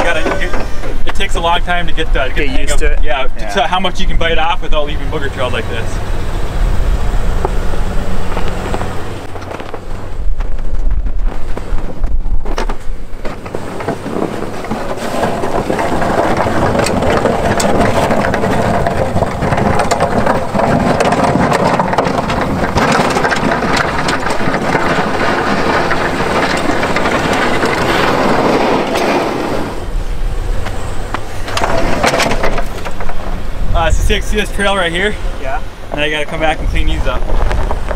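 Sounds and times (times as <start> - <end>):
snowplow blade scraping ground: 0.0 - 37.9.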